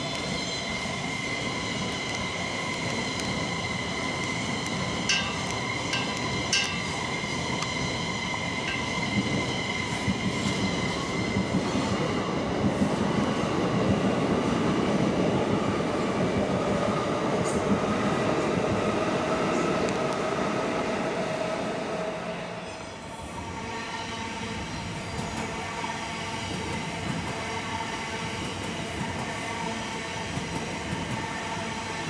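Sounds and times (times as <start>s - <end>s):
electric trains passing: 0.0s - 32.0s.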